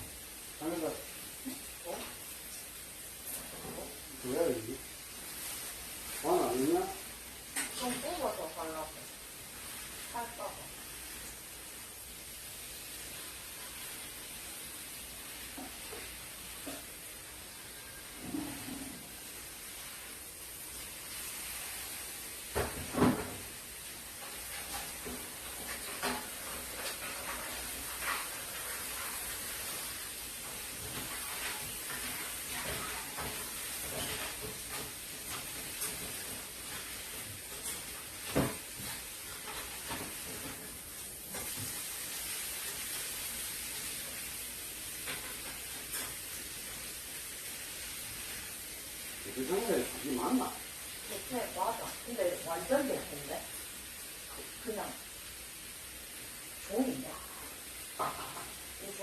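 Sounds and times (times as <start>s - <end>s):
food sizzling in a pan: 0.0s - 59.0s
steady hiss: 0.0s - 59.0s.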